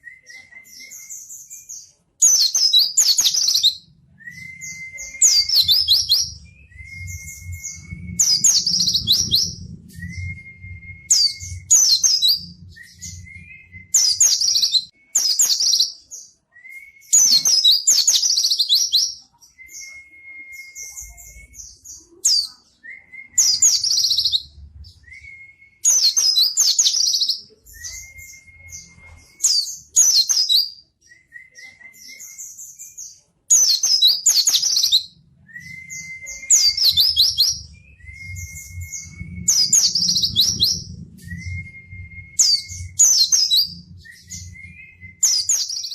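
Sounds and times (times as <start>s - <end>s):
bird whistling and twittering: 0.0s - 45.9s.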